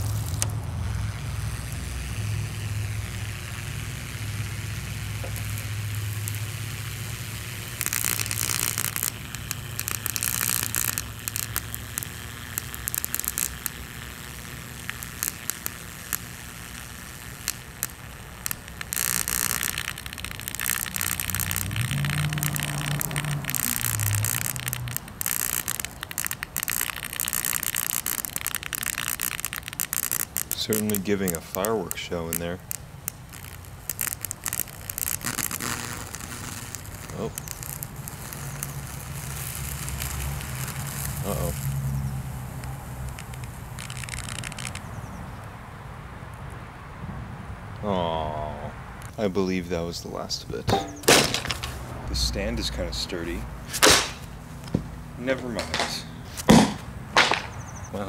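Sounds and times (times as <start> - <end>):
electric fan motor humming: 0.0 - 46.5
motor crackling and sparking: 0.0 - 58.0.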